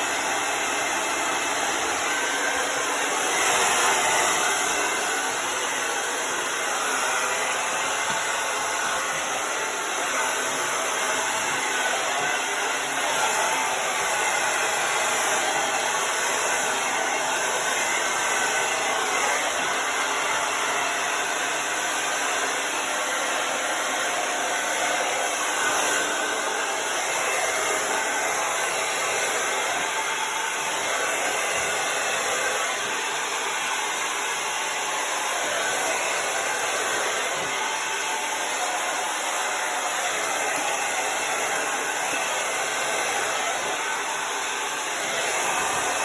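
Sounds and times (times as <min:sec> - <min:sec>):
hair dryer blowing: 0:00.0 - 0:46.0.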